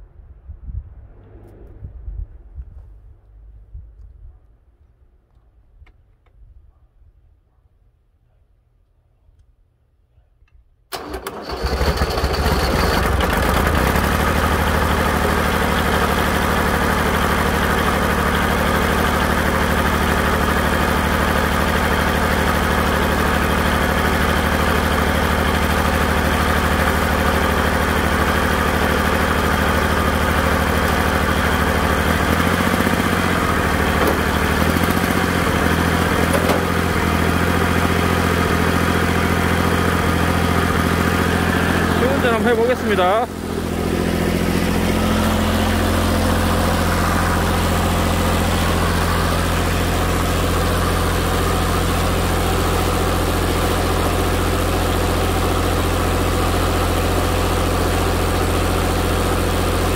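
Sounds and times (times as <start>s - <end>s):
tractor diesel engine starting and idling: 10.9s - 59.9s.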